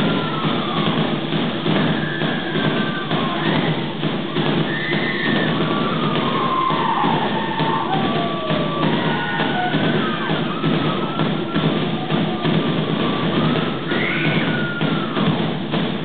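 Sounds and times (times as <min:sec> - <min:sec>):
fast steady drumming: 0:00.0 - 0:16.0.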